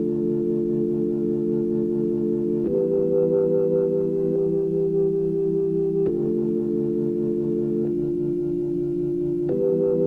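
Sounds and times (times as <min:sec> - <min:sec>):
organ-like keyboard chords: 0:00.0 - 0:10.0.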